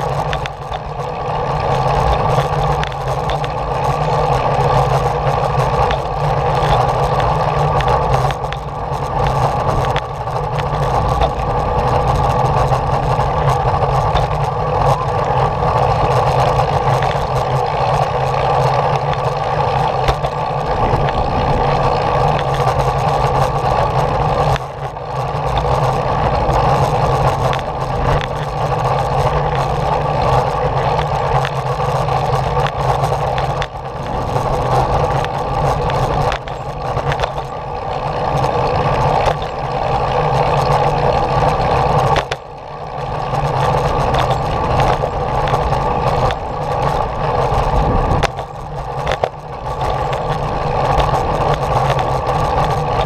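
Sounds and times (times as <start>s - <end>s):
small vehicle running on paved path: 0.0s - 53.0s.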